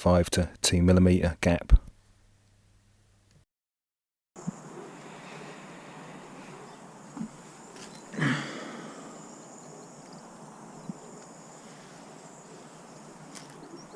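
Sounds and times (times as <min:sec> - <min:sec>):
outdoor background hiss: 0:00.0 - 0:03.4, 0:04.4 - 0:13.9.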